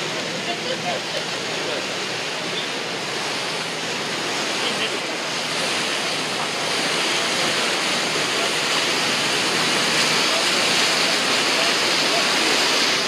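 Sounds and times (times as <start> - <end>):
boat wake water rushing: 0.0 - 13.0.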